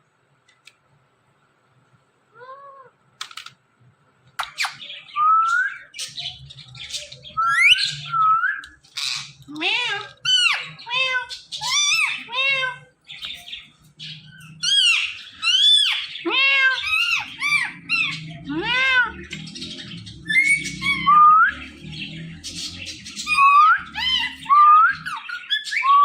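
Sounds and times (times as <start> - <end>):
parakeet squawking: 4.4 - 26.0.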